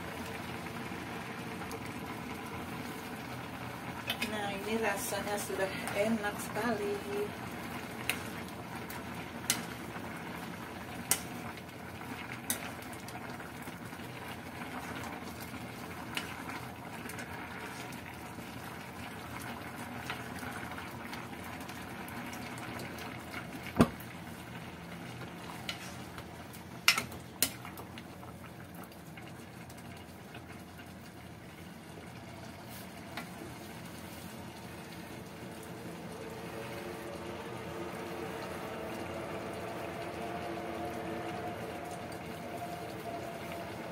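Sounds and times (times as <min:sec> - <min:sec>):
stew bubbling in a pot: 0:00.0 - 0:43.9.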